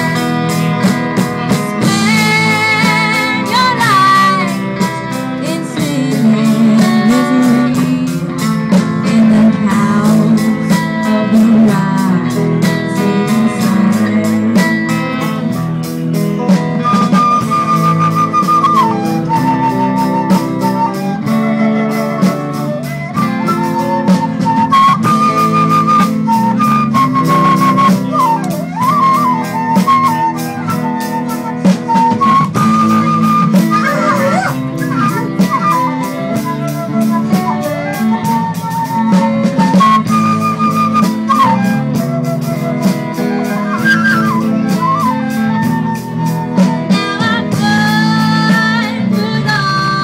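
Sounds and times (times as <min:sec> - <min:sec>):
bass guitar: 0:00.0 - 0:50.0
drums beating: 0:00.0 - 0:50.0
electric guitar: 0:00.0 - 0:50.0
flute: 0:00.0 - 0:50.0.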